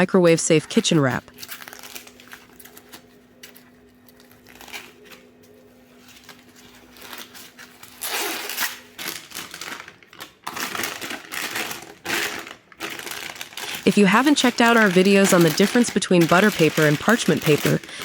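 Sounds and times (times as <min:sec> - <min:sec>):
plastic wrap crinkling: 0:00.0 - 0:18.0.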